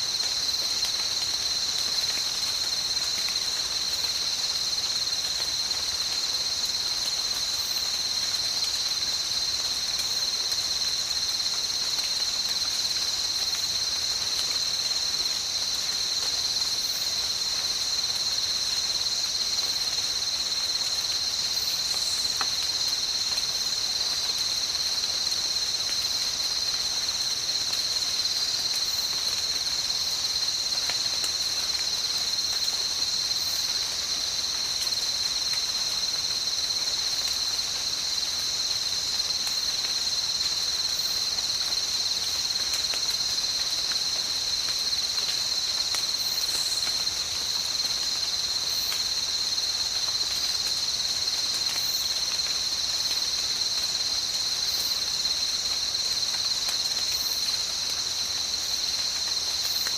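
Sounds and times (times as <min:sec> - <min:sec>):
high-pitched insect chorus: 0:00.0 - 0:59.9
soft hiss of rain: 0:00.0 - 0:59.9.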